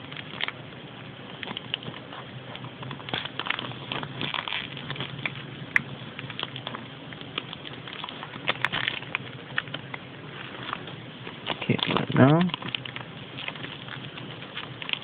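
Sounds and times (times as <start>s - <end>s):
wrapper crinkling: 0.0s - 0.6s, 1.3s - 15.0s.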